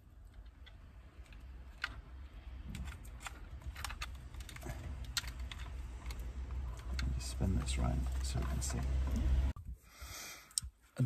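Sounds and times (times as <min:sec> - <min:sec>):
plastic connectors clicking: 0:00.0 - 0:09.4.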